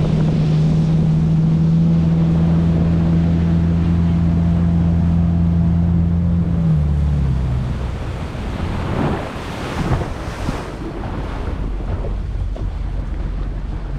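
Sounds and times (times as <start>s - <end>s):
motorboat engine: 0.0s - 13.9s
water splashing and rushing: 0.0s - 13.9s
wind buffeting microphone: 0.0s - 13.9s.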